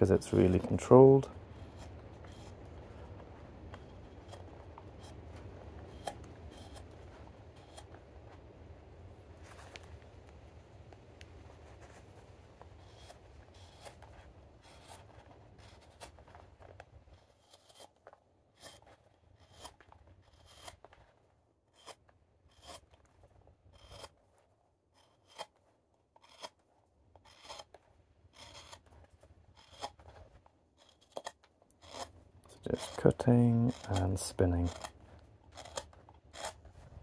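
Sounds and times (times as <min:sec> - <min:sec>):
knife making faint scraping cuts: 0:00.2 - 0:08.4, 0:11.6 - 0:37.0.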